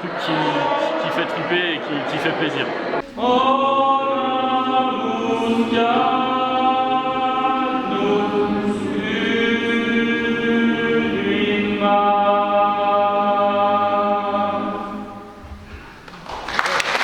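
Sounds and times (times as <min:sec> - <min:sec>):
choir singing a cappella: 0:00.0 - 0:15.7.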